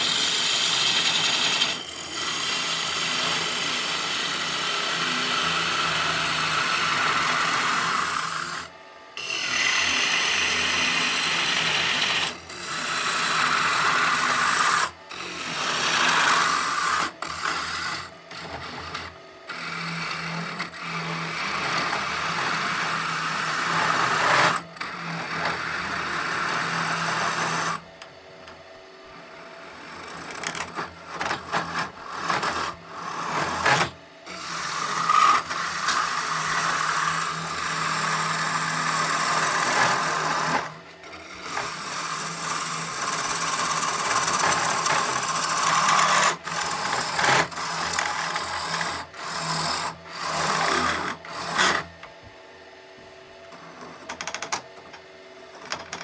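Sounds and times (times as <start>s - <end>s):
gouge scraping spinning wood: 0.0s - 52.2s, 53.5s - 56.0s
lathe low hum: 0.0s - 56.0s.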